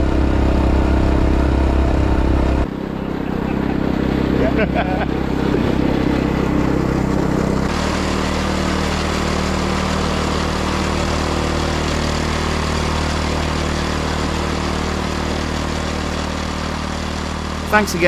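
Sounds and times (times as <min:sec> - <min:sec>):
engine running: 0:00.1 - 0:16.0.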